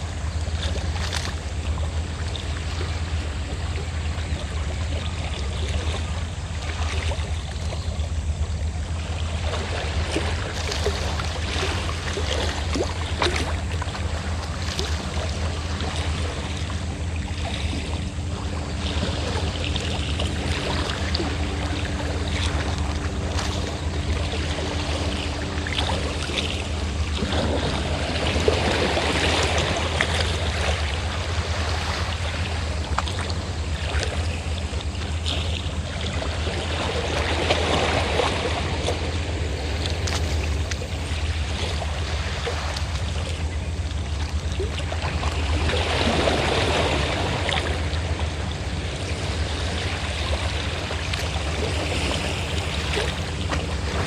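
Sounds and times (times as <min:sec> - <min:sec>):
boat engine droning: 0:00.0 - 0:54.0
sea waves washing in: 0:00.0 - 0:54.0.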